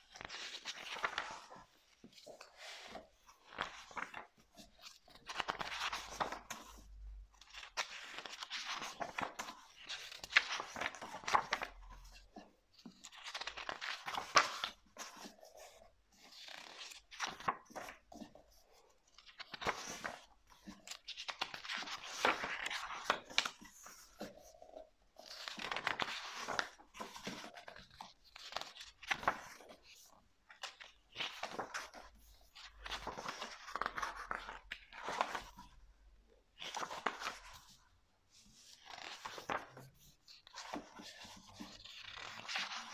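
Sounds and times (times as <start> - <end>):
book pages rustling: 0.0 - 35.8, 36.5 - 42.9.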